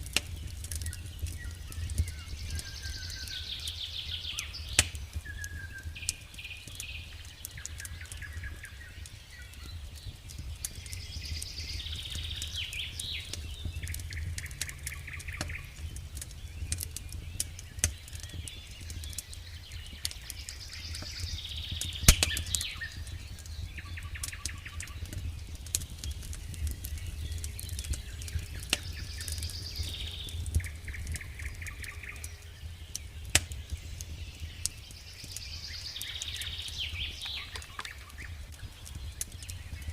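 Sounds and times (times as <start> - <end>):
campfire crackling and popping: 0.0 - 39.9
songbirds singing trills: 0.0 - 39.9.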